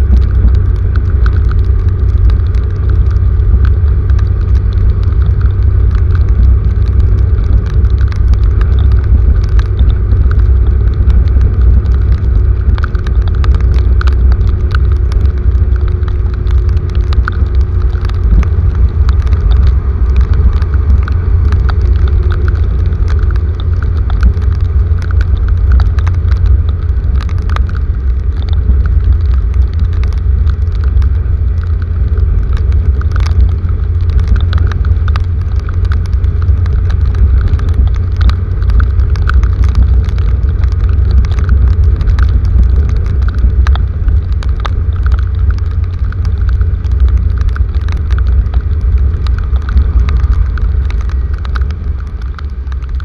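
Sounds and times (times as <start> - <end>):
heavy rain rumbling: 0.0 - 53.0
raindrops ticking: 0.0 - 53.0.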